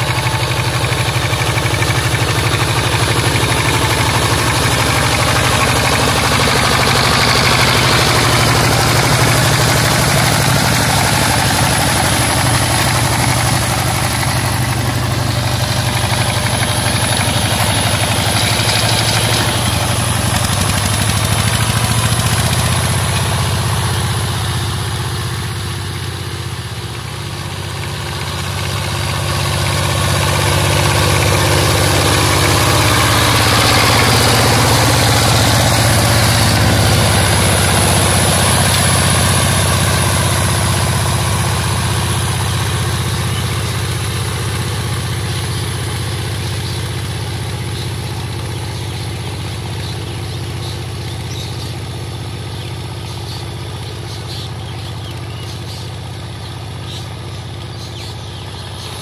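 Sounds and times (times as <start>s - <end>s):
diesel tiller engine running: 0.0s - 59.0s
wheels churning through mud: 0.0s - 59.0s.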